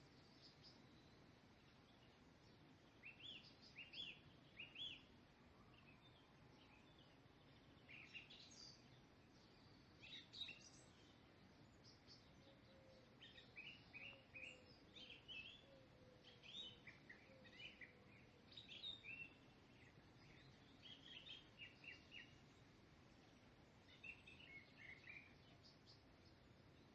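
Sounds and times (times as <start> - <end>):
quiet steady hiss: 0.0 - 26.9.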